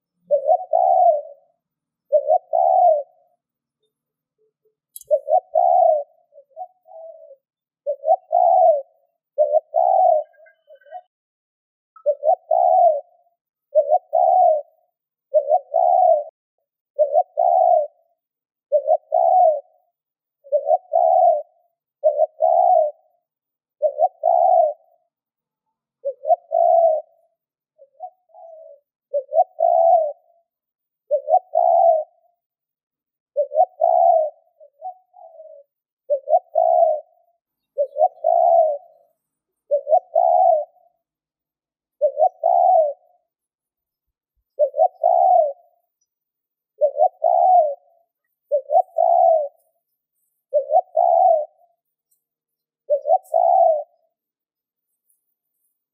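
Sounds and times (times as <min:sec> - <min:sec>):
dove cooing: 0:00.0 - 0:03.5, 0:05.0 - 0:11.1, 0:12.0 - 0:25.3, 0:26.0 - 0:32.4, 0:33.3 - 0:43.4, 0:44.4 - 0:54.3.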